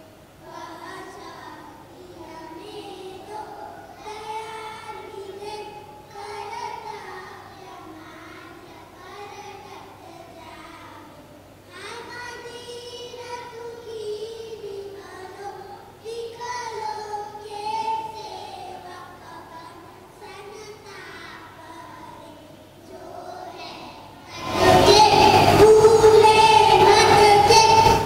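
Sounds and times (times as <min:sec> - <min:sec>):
children singing in unison: 0:00.0 - 0:10.0, 0:12.3 - 0:28.0.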